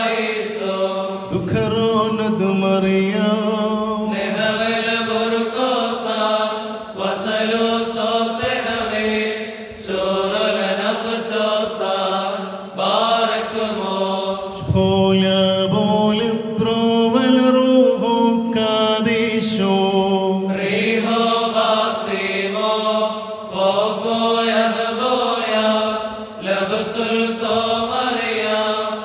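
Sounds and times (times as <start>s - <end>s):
voices chanting a hymn: 0.0s - 29.0s.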